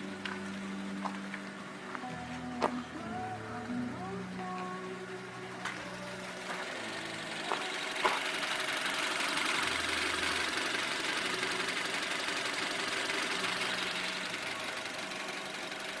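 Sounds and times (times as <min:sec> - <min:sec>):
engine hiss and whir: 0:00.0 - 0:16.0
engine whistle: 0:00.0 - 0:16.0.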